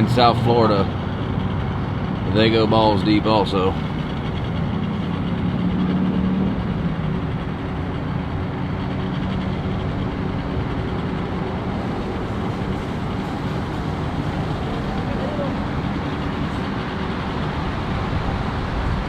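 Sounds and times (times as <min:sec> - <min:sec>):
outdoor noise: 0:00.0 - 0:19.0
vehicle engine running: 0:00.0 - 0:19.0.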